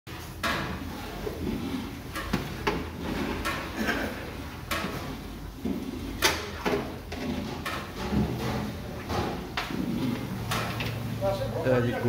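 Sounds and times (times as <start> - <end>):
low kitchen hum: 0.1 - 12.0
metal paddle scraping a pot: 0.4 - 10.9.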